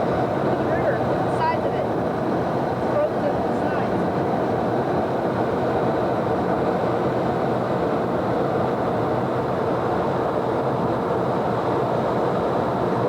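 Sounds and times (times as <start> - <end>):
road and engine noise inside car: 0.0 - 13.0.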